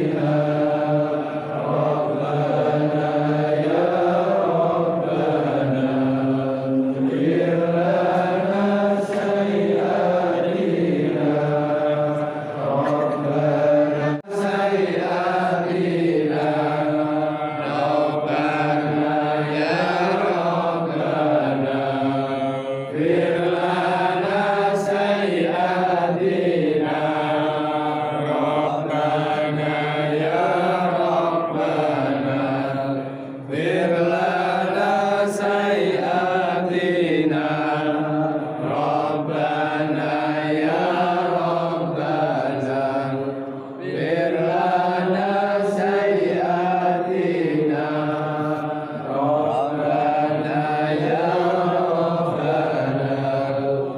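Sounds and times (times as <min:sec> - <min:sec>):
low voice devotional chanting: 0:00.0 - 0:53.9.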